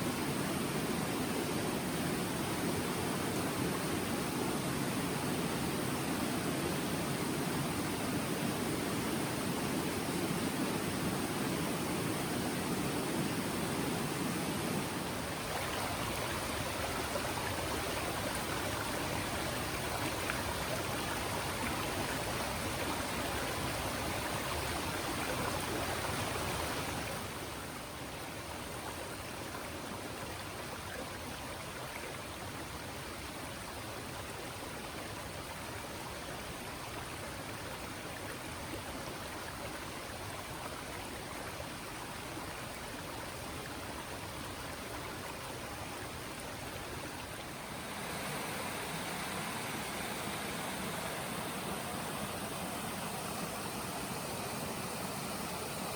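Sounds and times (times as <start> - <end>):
stream water running: 0.0 - 55.9.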